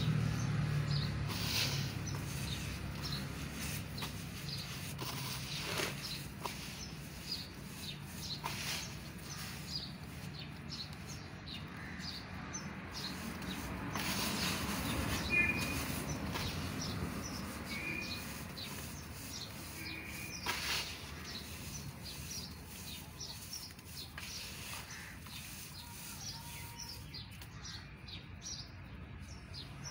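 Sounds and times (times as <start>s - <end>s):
small birds chirping: 0.0s - 29.9s
damp cement crunching by hand: 0.1s - 27.4s.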